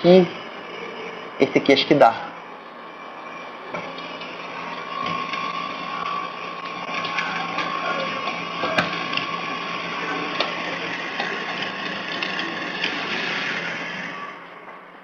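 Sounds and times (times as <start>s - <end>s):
mechanical whirr with hum: 0.0s - 15.0s.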